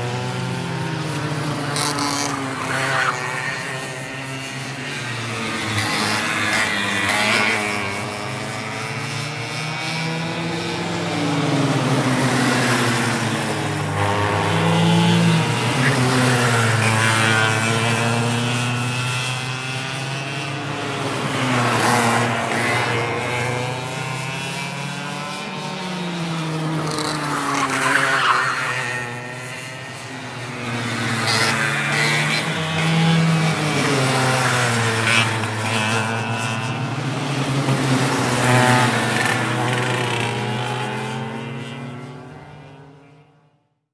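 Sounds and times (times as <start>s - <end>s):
go-kart engines buzzing: 0.0s - 43.6s.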